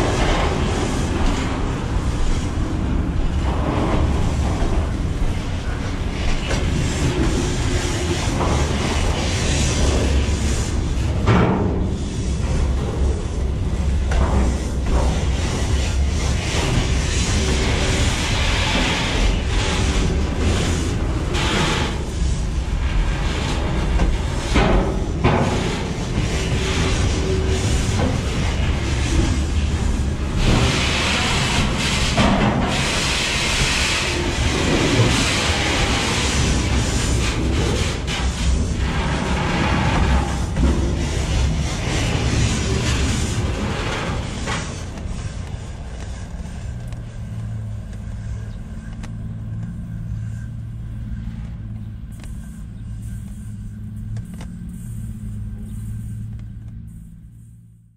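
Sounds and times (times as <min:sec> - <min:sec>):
low mechanical drone: 0:00.0 - 0:57.9
steel wheels rumbling on rail: 0:00.0 - 0:57.9.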